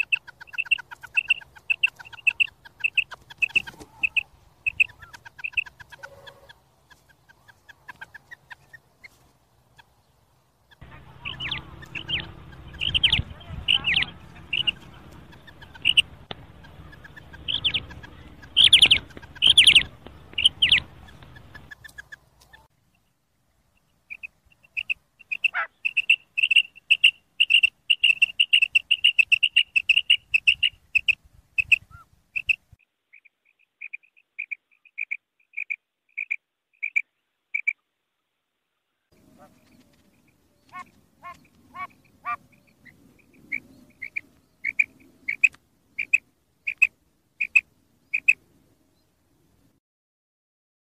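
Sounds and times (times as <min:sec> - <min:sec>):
quail calling: 0:00.0 - 0:22.7, 0:24.1 - 0:37.8, 0:39.2 - 0:48.4.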